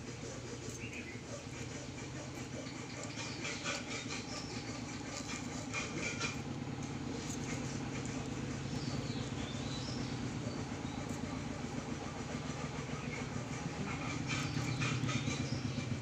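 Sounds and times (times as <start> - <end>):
engine running with low drone: 0.0 - 16.0.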